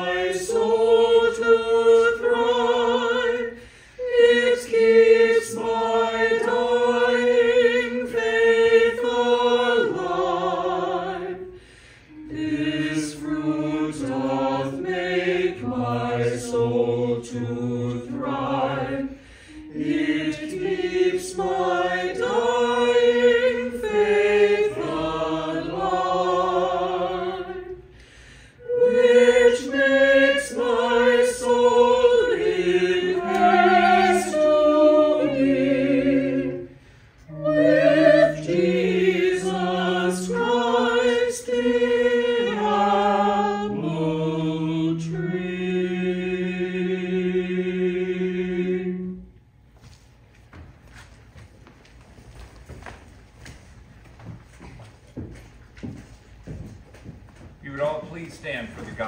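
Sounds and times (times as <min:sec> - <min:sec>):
choir singing in harmony: 0:00.0 - 0:49.4.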